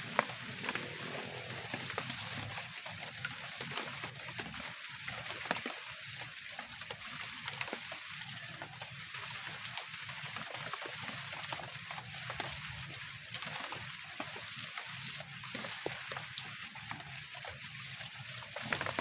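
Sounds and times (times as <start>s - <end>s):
light rain drizzle: 0.0s - 19.0s.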